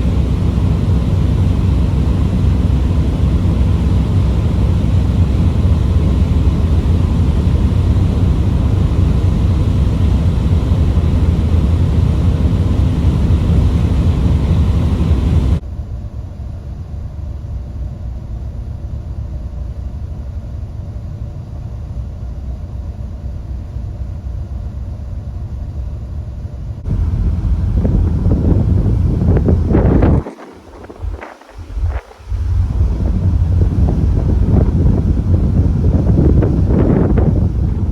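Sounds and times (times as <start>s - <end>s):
ferry engine rumble: 0.0s - 15.6s, 22.1s - 37.9s.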